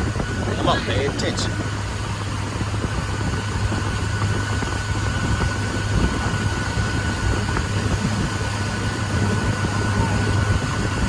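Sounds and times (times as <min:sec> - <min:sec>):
boat motor humming: 0:00.0 - 0:11.0
rushing water noise: 0:00.0 - 0:11.0.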